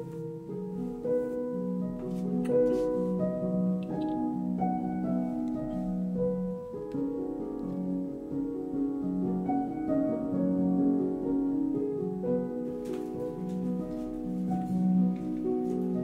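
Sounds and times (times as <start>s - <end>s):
soft instrumental music: 0.0s - 16.0s.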